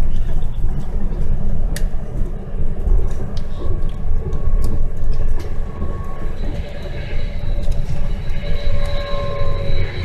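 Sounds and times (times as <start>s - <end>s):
bus engine and tyres rumbling: 0.0s - 10.0s.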